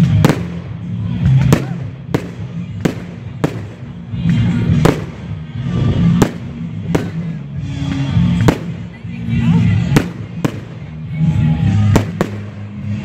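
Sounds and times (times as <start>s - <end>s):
fireworks bursting: 0.0s - 9.0s, 9.8s - 11.1s, 11.7s - 13.0s.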